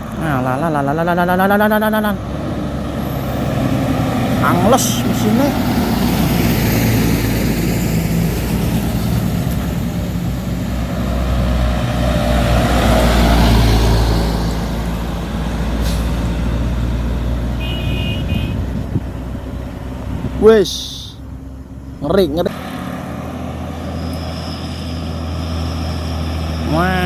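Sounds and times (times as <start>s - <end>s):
truck diesel engine labouring: 0.0s - 27.0s.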